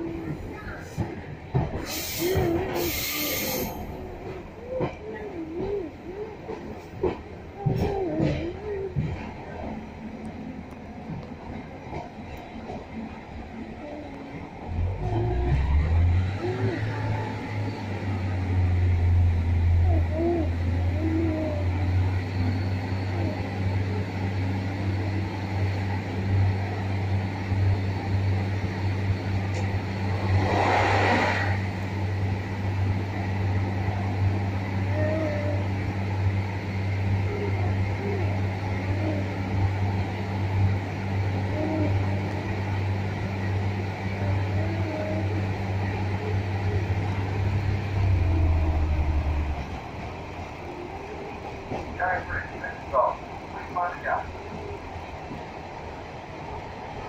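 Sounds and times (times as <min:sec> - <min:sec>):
train carriage drone and rumble: 0:00.0 - 0:57.0.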